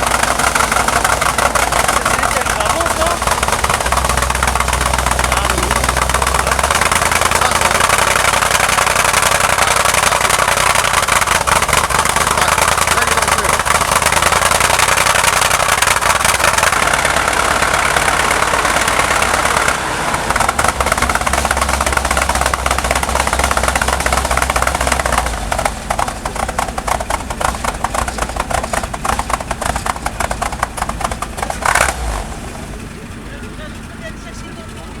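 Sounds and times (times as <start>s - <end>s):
tank engine rumbling: 0.0s - 35.0s.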